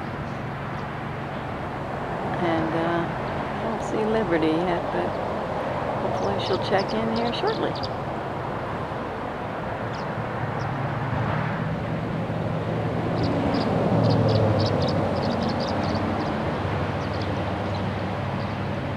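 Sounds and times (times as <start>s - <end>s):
vehicle engine and road hum: 0.0s - 18.9s.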